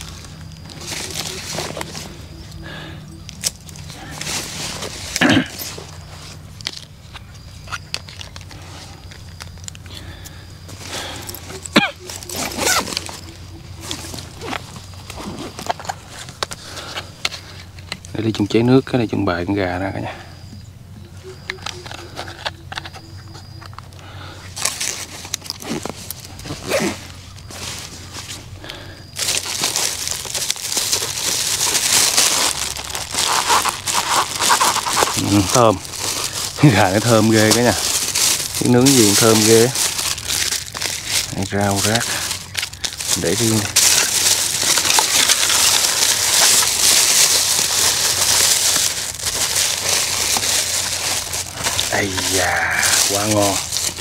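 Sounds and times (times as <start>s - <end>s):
plastic bags crinkling: 0.0s - 18.0s, 24.5s - 54.0s
packaging rustling and scraping: 0.0s - 18.1s, 24.5s - 54.0s.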